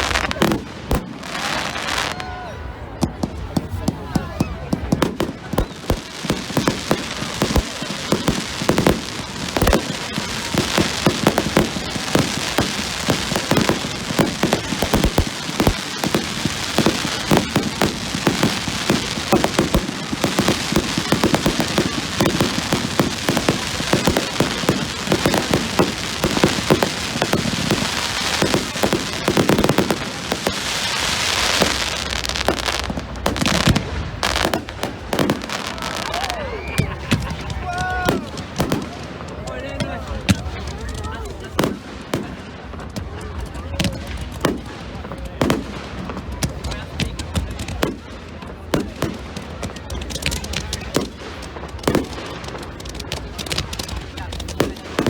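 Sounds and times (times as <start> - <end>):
fireworks crackling pops: 0.0 - 55.0.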